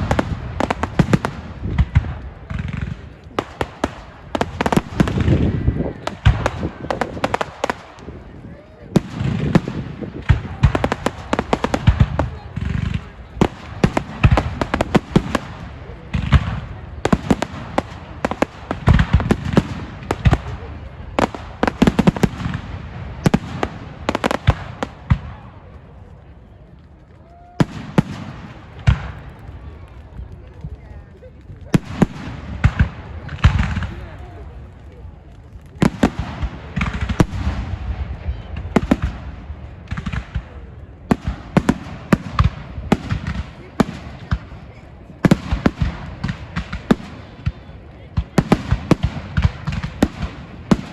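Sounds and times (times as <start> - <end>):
fireworks cracking and banging: 0.0 - 50.9
heavy rumbling firework burst: 0.0 - 50.9.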